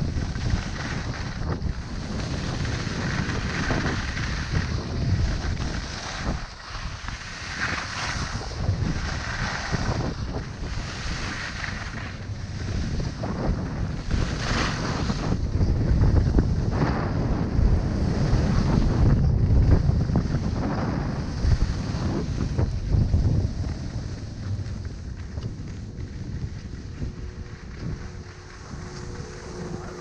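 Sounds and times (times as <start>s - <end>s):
skis scraping over snow: 0.0s - 30.0s
wind on microphone: 0.0s - 30.0s.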